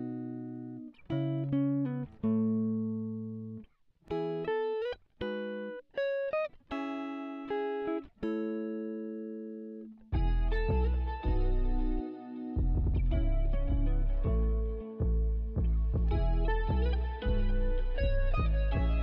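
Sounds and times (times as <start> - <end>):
picked guitar notes: 0.0 - 19.0.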